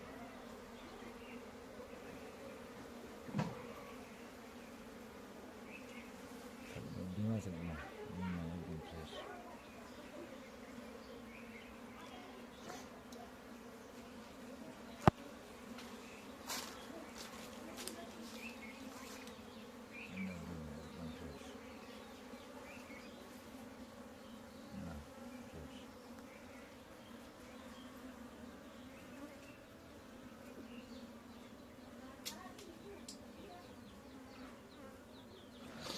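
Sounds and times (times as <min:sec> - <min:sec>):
bees buzzing: 0:00.0 - 0:35.9.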